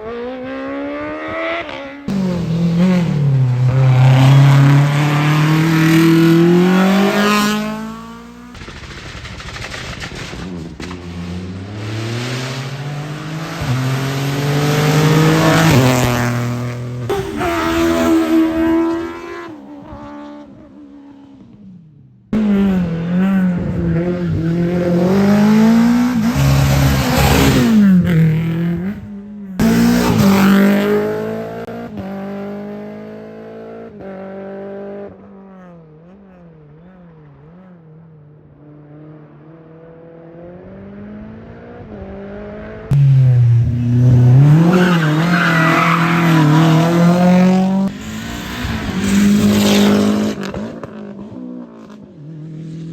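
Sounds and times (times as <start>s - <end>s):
race car engines revving: 0.0s - 21.7s, 22.3s - 52.9s.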